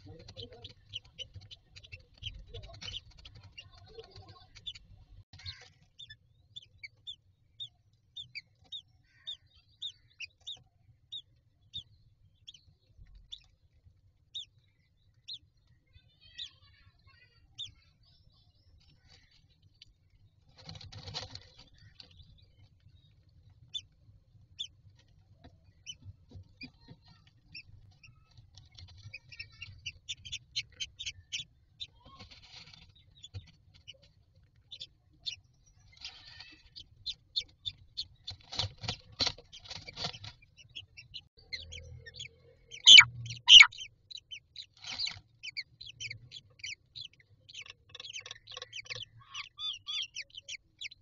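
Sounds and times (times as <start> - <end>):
chicks peeping faintly: 0.0 - 51.0.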